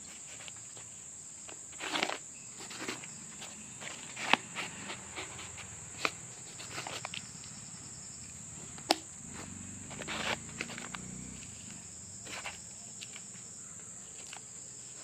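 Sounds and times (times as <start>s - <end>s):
crickets chirring: 0.0s - 15.0s
soft rustling: 0.0s - 15.0s.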